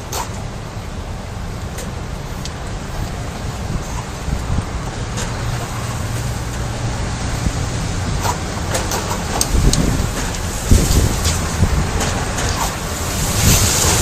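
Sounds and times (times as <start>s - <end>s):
rain rushing: 0.0s - 14.0s
wind buffeting microphone: 0.0s - 14.0s.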